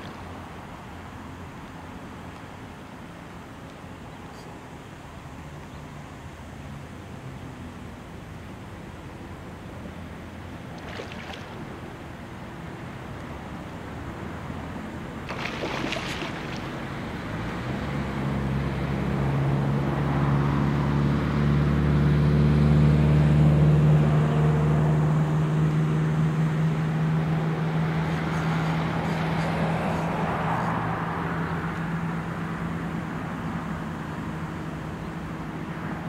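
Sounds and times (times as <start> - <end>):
passing engine droning: 0.0 - 36.0.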